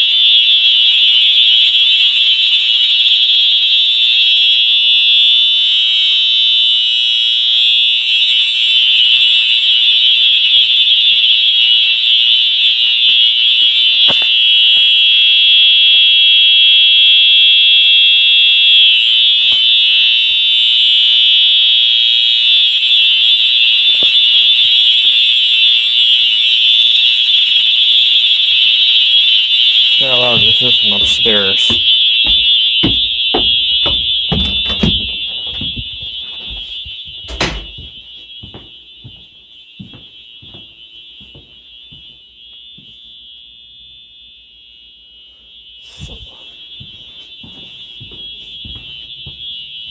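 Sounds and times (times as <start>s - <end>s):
fire alarm horn high tone: 0.0s - 49.9s.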